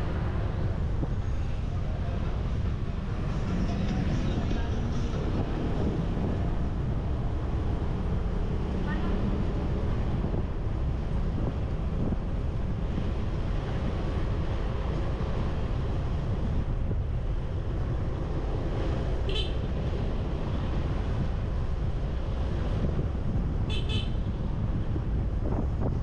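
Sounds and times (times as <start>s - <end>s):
road noise: 0.0s - 26.0s
wind buffeting microphone: 0.0s - 26.0s.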